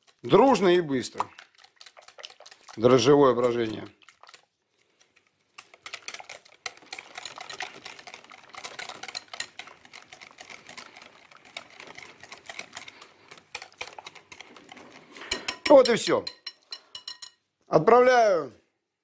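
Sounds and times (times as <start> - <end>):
whisk clicking against bowl: 0.0 - 17.4.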